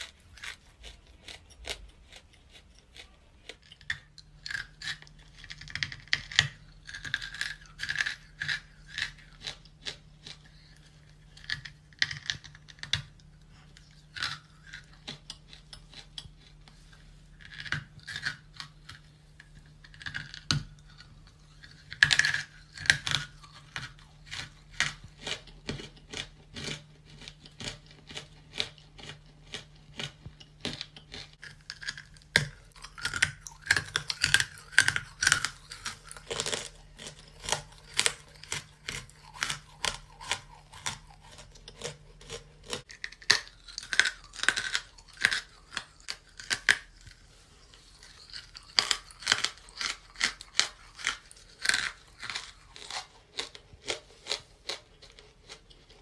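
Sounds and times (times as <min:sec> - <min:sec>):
clay crunching in mouth: 0:00.0 - 0:56.0
faint steady hum: 0:00.0 - 0:56.0.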